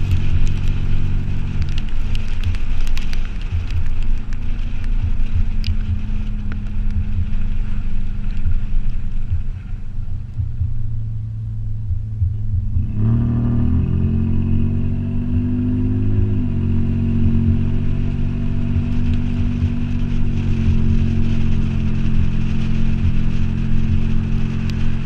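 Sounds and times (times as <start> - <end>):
engine running with deep exhaust: 0.0 - 25.0.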